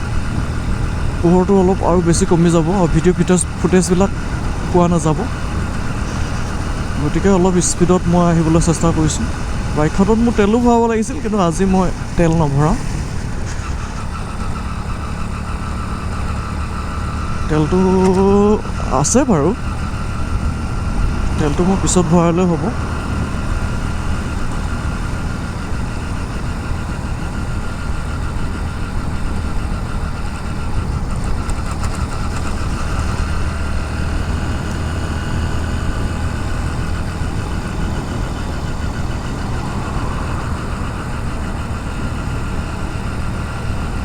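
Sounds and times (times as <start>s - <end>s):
motorcycle engine running: 0.0s - 44.0s
wind and road noise: 0.0s - 44.0s.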